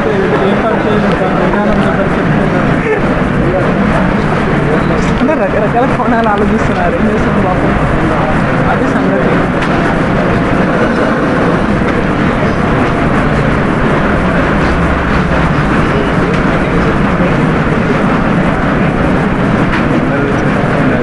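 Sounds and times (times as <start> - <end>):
loud rumbling noise: 0.0 - 21.0.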